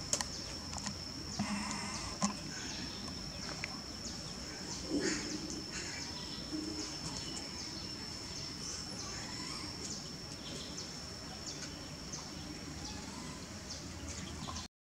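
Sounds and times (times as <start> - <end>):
high-pitched whine: 0.0 - 14.6.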